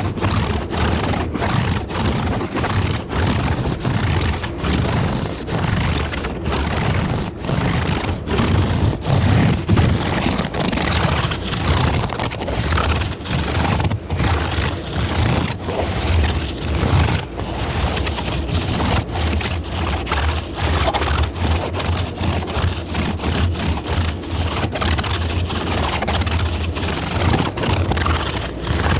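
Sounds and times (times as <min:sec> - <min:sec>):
scratching on microphone: 0:00.0 - 0:28.9.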